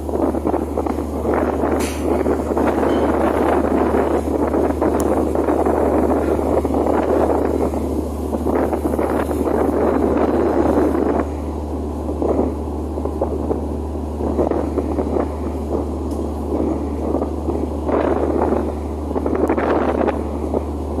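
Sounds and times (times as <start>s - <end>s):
ship engine drone: 0.0s - 21.0s
wind gusting on microphone: 0.0s - 21.0s.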